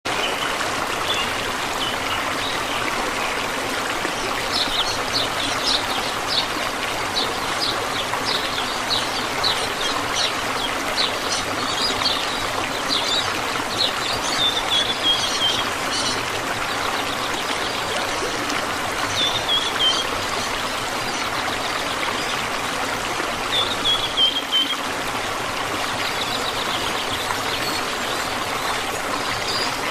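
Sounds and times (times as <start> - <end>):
waterfall rushing and splashing: 0.1 - 29.9.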